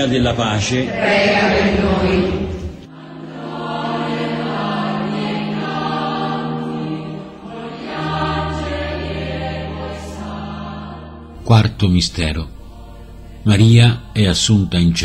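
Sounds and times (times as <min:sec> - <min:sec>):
choir singing slow chant: 0:00.6 - 0:15.0.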